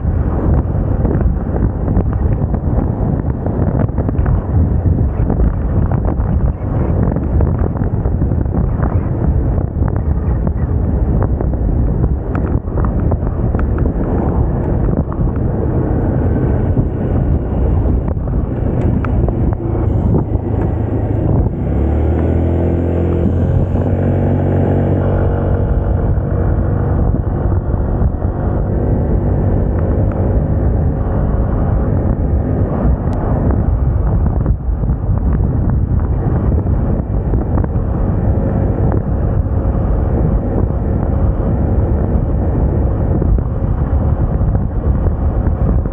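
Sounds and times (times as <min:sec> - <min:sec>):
scooter engine running: 0:00.0 - 0:45.9
wind buffeting microphone: 0:00.0 - 0:45.9.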